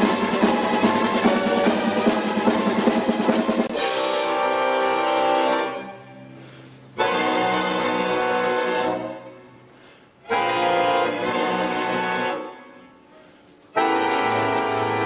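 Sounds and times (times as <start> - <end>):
accordion and strings chords: 0.0 - 13.0, 13.6 - 15.0.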